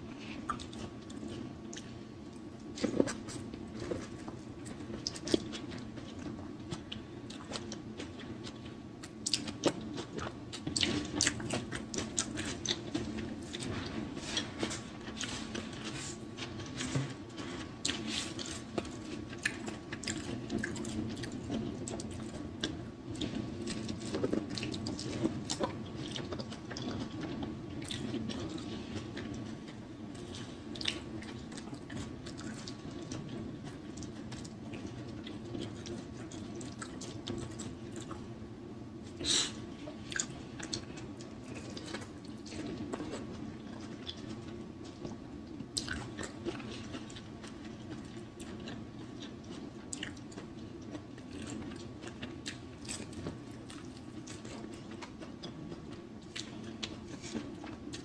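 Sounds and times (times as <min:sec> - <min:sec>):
faint steady hum: 0:00.0 - 0:58.0
person chewing with mouth smacking: 0:00.1 - 0:38.3, 0:39.0 - 0:58.0.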